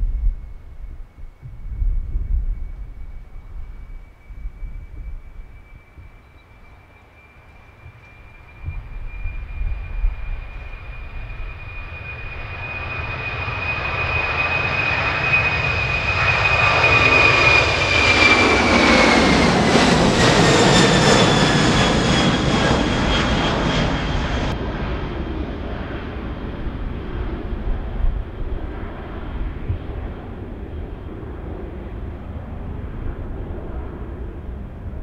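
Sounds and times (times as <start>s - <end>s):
jet airliner taking off: 0.0s - 35.0s.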